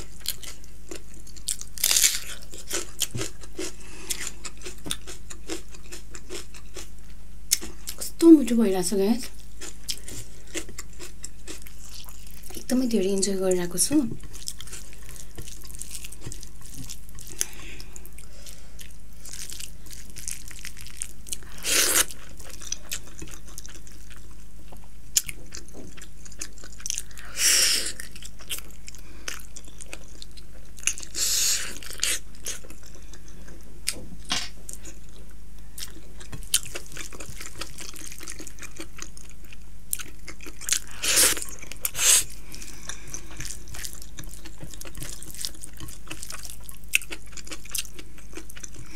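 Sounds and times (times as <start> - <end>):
person chewing food: 0.0 - 8.0, 9.2 - 12.7, 14.2 - 48.9.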